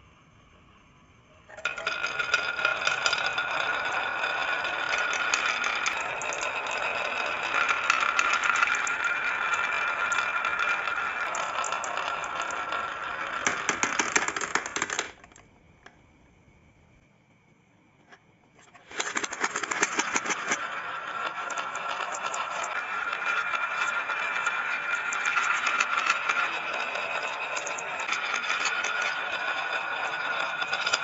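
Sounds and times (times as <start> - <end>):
steady ringing tone: 0.0 - 13.9, 19.0 - 31.0
marbles rattling along a track: 1.5 - 15.4, 18.7 - 31.0.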